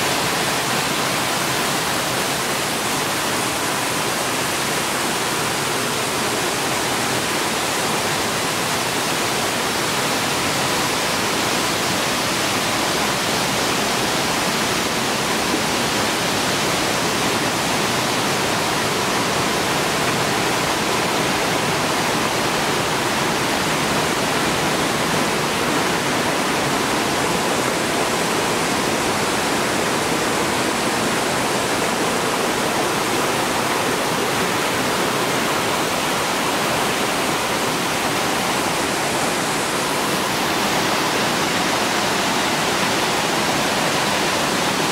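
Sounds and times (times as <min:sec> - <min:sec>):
river cascading among boulders: 0:00.0 - 0:44.9.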